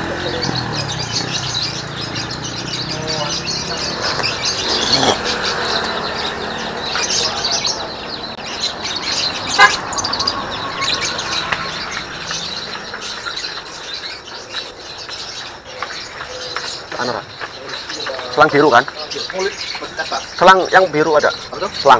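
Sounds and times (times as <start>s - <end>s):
songbirds chirping and twittering: 0.0s - 21.9s.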